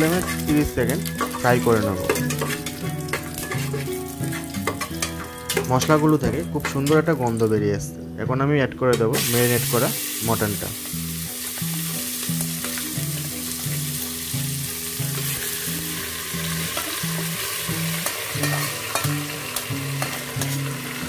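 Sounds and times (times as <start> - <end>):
meat sizzling in hot oil: 0.0 - 6.1, 9.2 - 21.0
quiet background music: 0.0 - 21.0.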